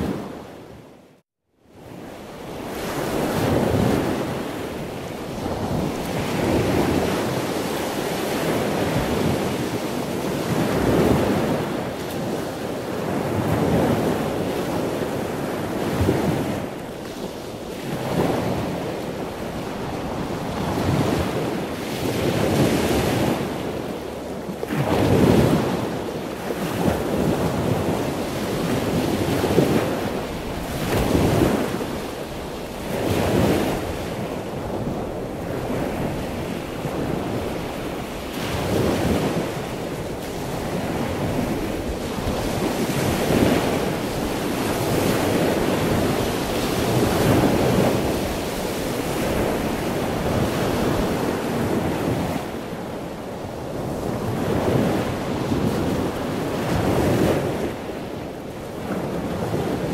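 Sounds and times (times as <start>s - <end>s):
wind and water rushing: 0.0s - 59.9s.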